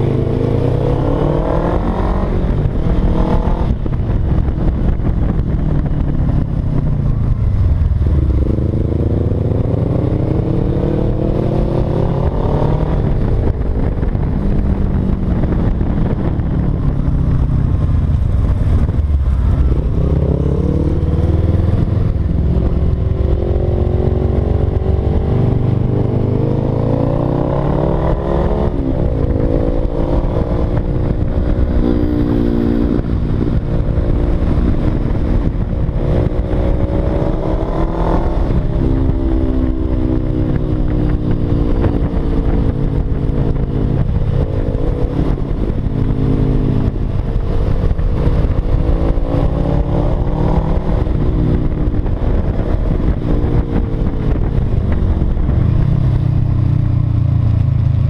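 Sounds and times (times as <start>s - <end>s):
motorcycle engine revving: 0.0s - 58.0s
wind rumble on microphone: 0.0s - 58.0s.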